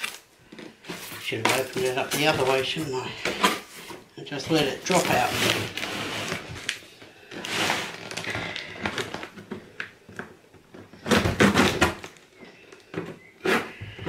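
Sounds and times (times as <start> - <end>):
cardboard and plastic rustling: 0.0 - 14.0.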